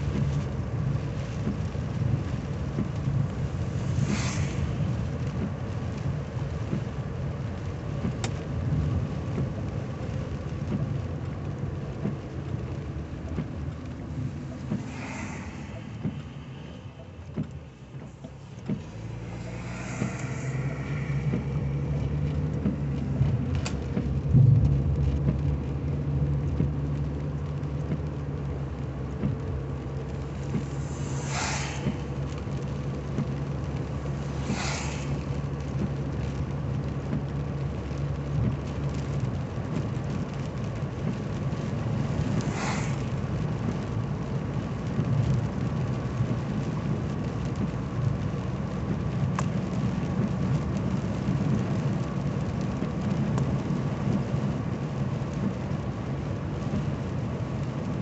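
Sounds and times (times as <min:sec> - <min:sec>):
car engine humming: 0:00.0 - 0:58.0
tyre and rain hiss: 0:00.0 - 0:58.0
windshield wiper swishing: 0:00.0 - 0:58.0.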